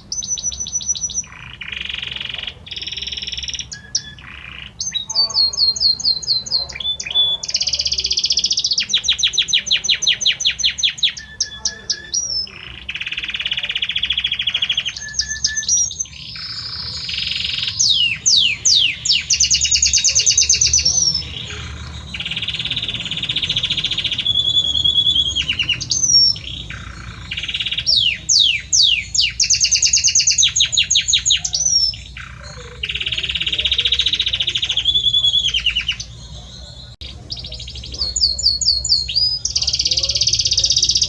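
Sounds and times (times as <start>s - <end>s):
canary singing: 0.0s - 41.0s.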